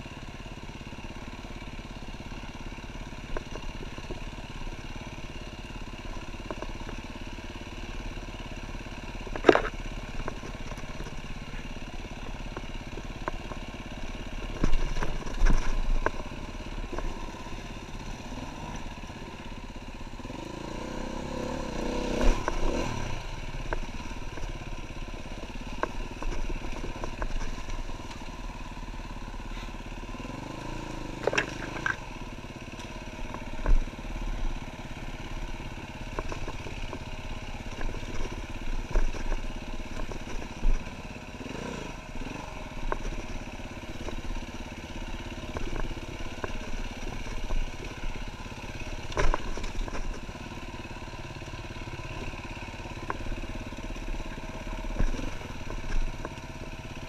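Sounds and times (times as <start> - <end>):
dirt bike engine running: 0.0 - 57.0
knocks and clatter over bumps: 3.0 - 8.1, 8.9 - 19.8, 21.9 - 57.0.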